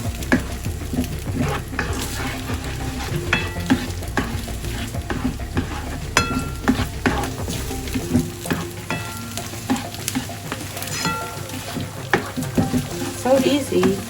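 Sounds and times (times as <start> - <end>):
food sizzling in a pan: 0.0 - 14.0
spatula scraping and knocking pan: 0.0 - 14.0.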